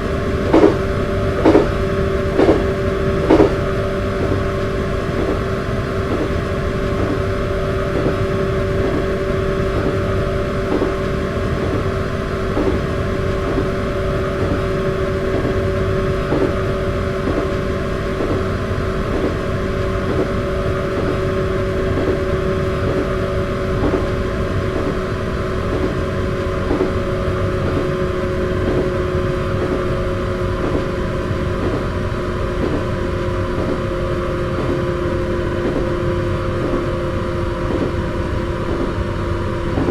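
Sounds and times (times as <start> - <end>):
electric train motor hum: 0.0 - 39.9
wheels clattering over rail joints: 0.0 - 39.9.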